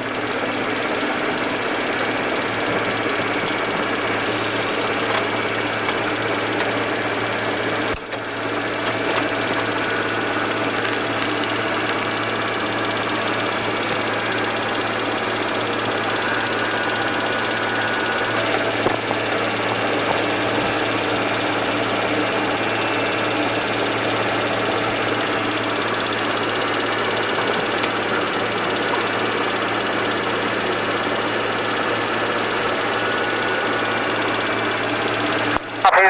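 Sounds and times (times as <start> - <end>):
jet engines idling: 0.0 - 36.0.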